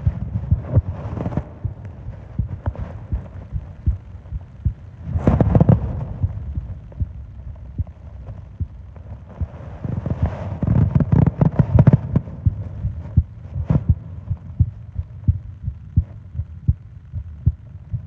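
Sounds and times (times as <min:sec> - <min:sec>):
heartbeat thumps: 0:00.0 - 0:18.0.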